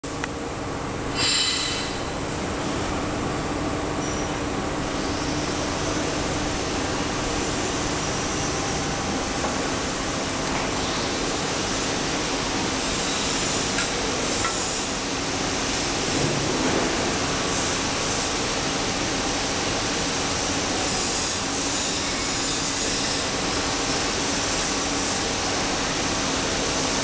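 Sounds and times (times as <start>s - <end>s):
workshop machinery humming: 0.0s - 27.0s.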